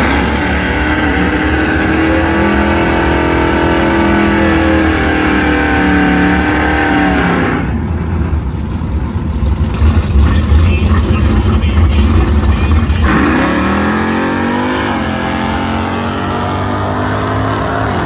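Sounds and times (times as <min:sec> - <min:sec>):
drag car engine revving: 0:00.0 - 0:18.0.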